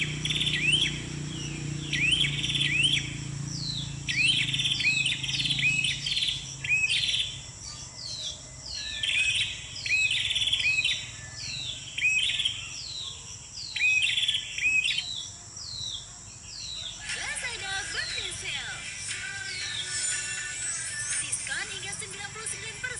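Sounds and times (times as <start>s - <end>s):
bird whistles and buzzy trills: 0.0s - 22.9s
high insect drone: 0.0s - 22.9s.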